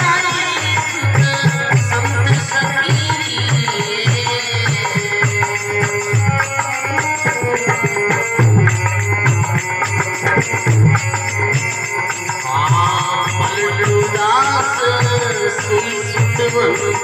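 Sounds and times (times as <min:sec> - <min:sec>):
hand drum rhythm: 0:00.0 - 0:17.0
harmonium melody: 0:00.0 - 0:17.0.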